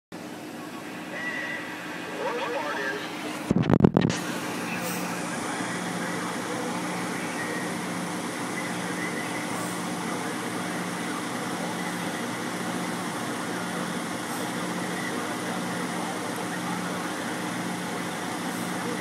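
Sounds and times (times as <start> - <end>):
truck engine idling: 0.2 - 19.0.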